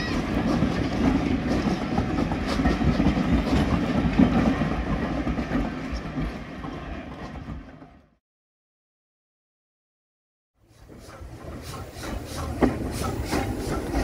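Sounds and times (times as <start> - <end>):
train wheels clacking over rail joints: 0.0 - 8.0, 10.7 - 14.0
passing train rumble: 0.0 - 8.2, 10.6 - 14.0.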